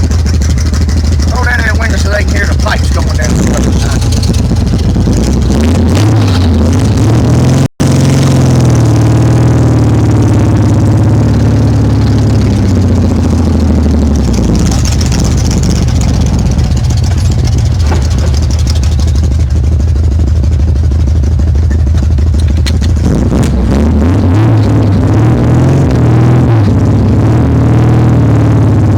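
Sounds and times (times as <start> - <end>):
truck engine exhaust note: 0.0 - 28.9.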